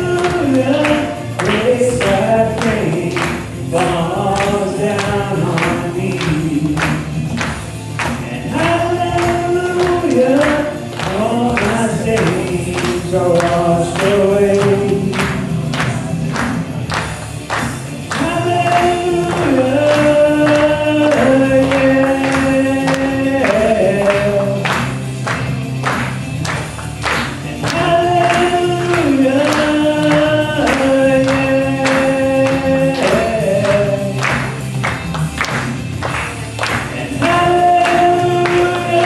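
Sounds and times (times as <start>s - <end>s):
band playing steady beat: 0.0s - 39.0s.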